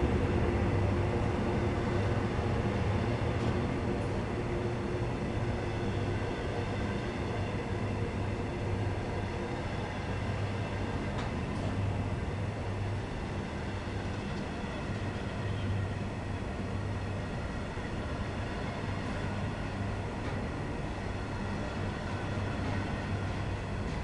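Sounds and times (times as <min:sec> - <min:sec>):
train wagons rumbling and rattling: 0:00.0 - 0:24.0.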